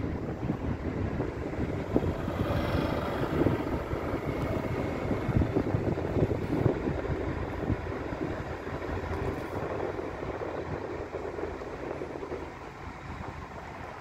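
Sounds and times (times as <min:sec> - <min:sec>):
diesel train rumbling: 0:00.0 - 0:14.0
wind buffeting microphone: 0:00.0 - 0:14.0.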